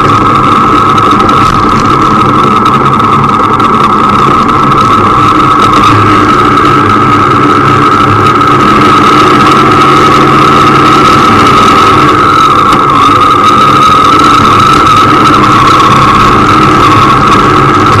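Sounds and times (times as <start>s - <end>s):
motorcycle engine running: 0.0s - 18.0s
steady high whine: 0.0s - 18.0s.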